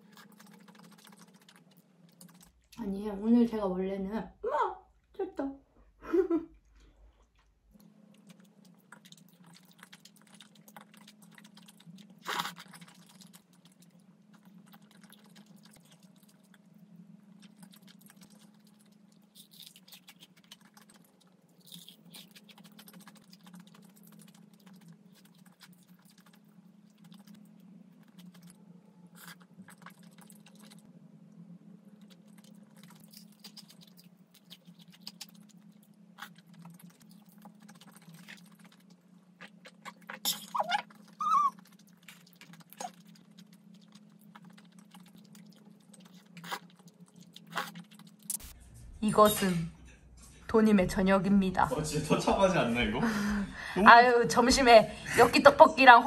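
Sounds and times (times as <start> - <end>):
chewing and crunching food: 0.0 - 2.9, 6.6 - 48.6
steady low hum: 0.0 - 56.0.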